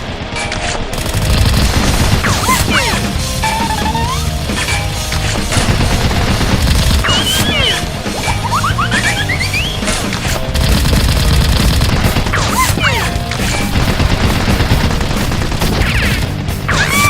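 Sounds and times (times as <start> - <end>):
background music: 0.0 - 17.0
automatic gunfire sound effect: 0.5 - 8.1, 9.8 - 17.0.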